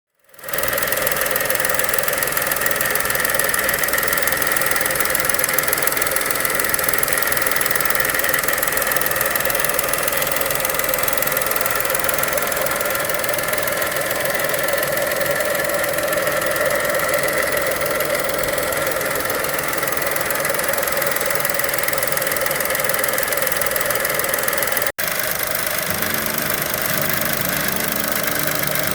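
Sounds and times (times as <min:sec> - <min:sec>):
car engine with gritty rattle: 0:00.1 - 0:28.9.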